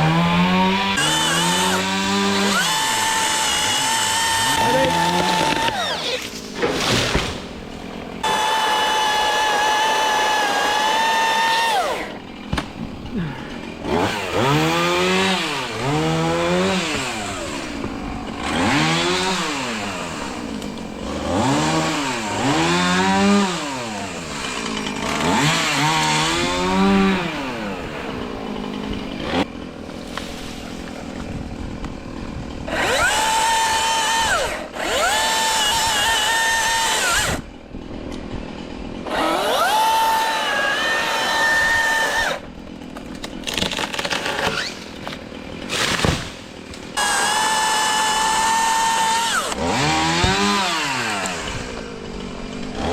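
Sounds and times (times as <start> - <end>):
chainsaw whining and cutting: 0.0 - 37.8, 38.9 - 52.9.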